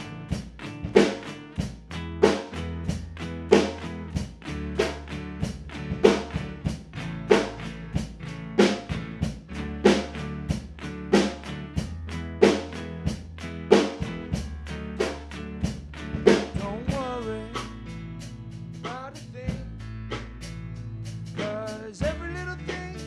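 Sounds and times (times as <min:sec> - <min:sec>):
instrumental band music: 0:00.0 - 0:23.0.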